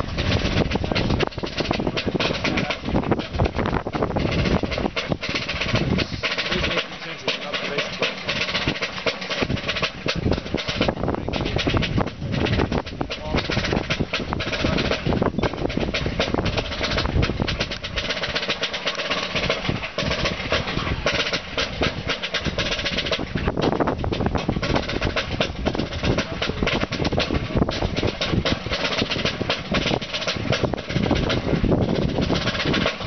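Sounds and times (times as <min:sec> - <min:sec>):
side drum beating: 0:00.0 - 0:33.0.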